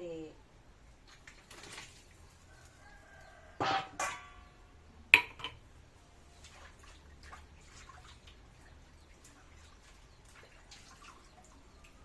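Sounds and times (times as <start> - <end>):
crackles and drips from pot: 0.9 - 12.0.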